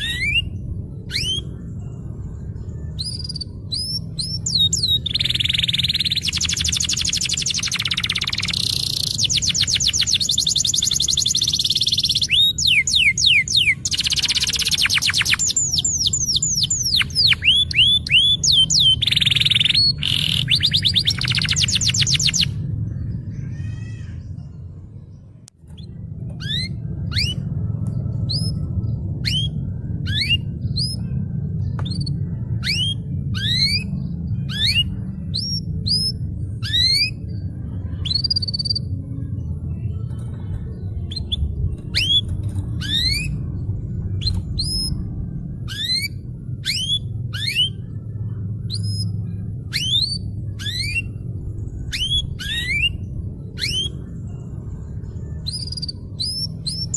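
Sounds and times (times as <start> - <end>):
canary singing: 0.0 - 24.6, 25.7 - 56.9
steady low hum: 0.0 - 56.9.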